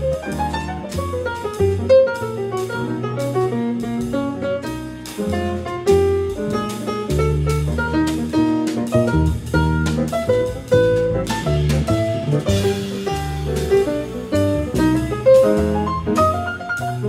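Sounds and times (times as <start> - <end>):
bass line: 0.0 - 17.0
drum kit with cymbal strokes: 0.0 - 17.0
saxophone and piano melodies: 0.0 - 17.0.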